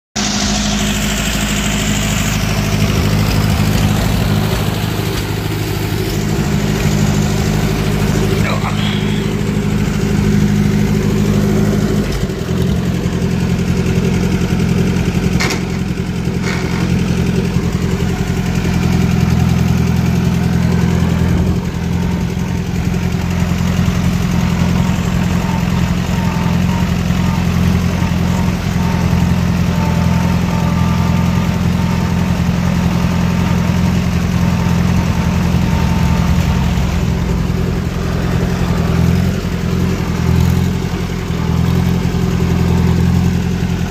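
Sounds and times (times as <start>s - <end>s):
tractor engine running: 0.2s - 43.9s.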